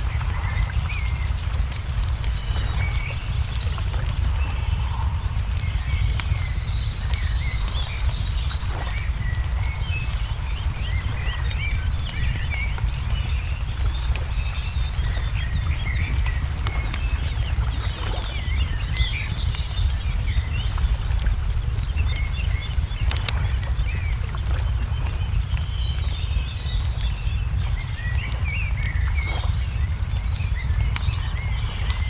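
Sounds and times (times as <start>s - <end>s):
small birds chirping: 0.0s - 32.0s
steady low rumble: 0.0s - 32.0s
wood fire crackling: 0.0s - 32.0s.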